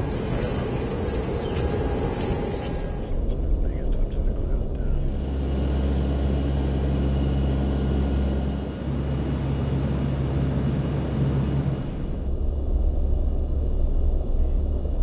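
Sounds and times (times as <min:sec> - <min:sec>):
aircraft engines droning: 0:00.0 - 0:15.0
faint high whine: 0:00.0 - 0:15.0.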